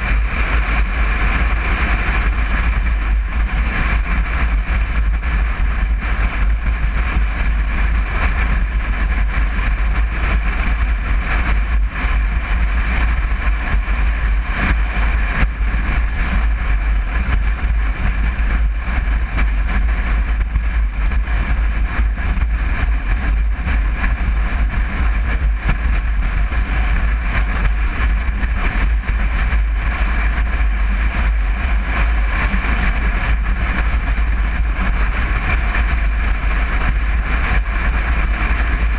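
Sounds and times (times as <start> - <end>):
van engine running: 0.0 - 38.9.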